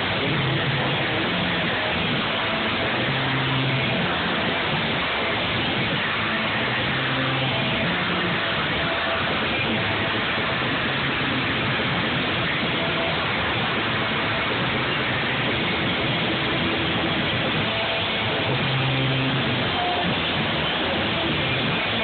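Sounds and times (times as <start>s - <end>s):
loud distorted doom metal: 0.0s - 22.0s.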